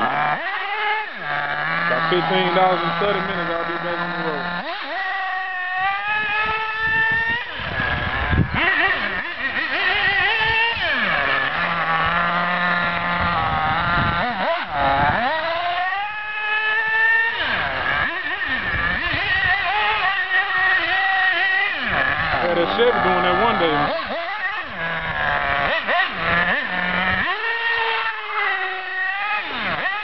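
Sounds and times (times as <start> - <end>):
nitro engine high-pitched buzz: 0.0 - 30.0.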